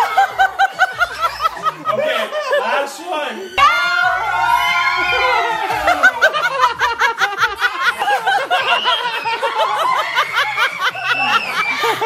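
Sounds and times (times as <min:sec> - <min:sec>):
young children laughing: 0:00.0 - 0:03.6, 0:05.3 - 0:12.0.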